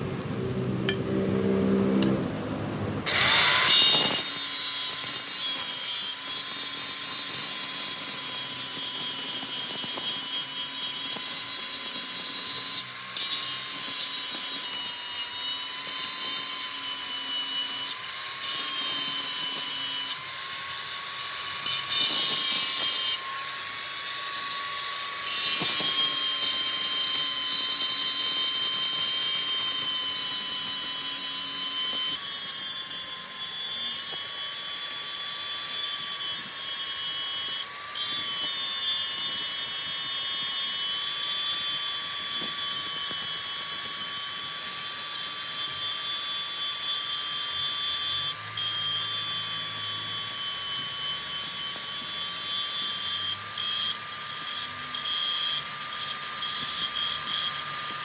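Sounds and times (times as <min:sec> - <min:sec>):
metalworking machine whining: 0:00.0 - 0:58.0.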